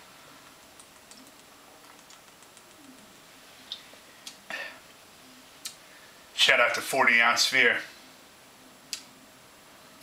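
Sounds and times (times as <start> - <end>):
room hiss: 0.0 - 10.0.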